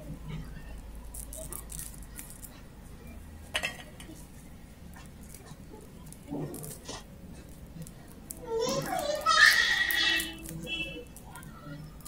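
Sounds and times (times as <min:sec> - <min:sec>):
garlic skins crackling while peeled: 0:00.5 - 0:12.0.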